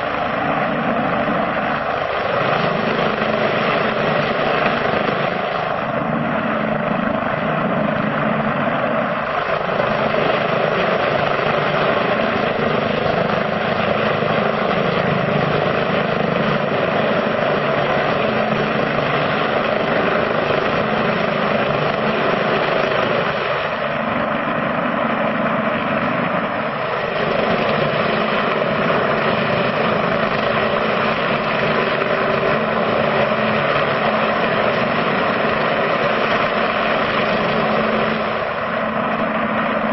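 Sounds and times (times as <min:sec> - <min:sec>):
helicopter hovering: 0:00.0 - 0:39.9.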